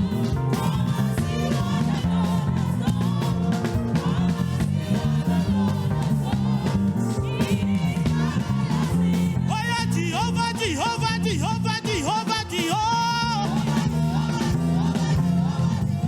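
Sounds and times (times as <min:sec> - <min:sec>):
gospel band with bass and drums: 0:00.0 - 0:16.0
people singing: 0:00.0 - 0:16.0.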